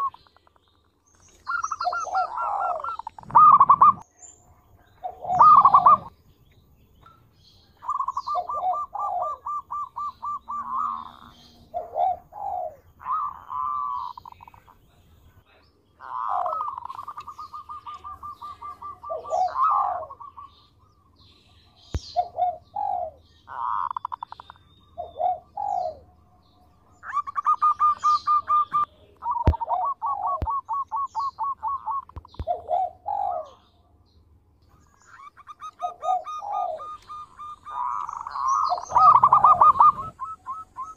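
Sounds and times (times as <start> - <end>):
dove cooing: 0.0 - 0.3, 1.4 - 4.0, 4.9 - 6.2, 7.8 - 14.9, 16.0 - 21.0, 22.0 - 26.2, 27.0 - 33.8, 34.8 - 40.9.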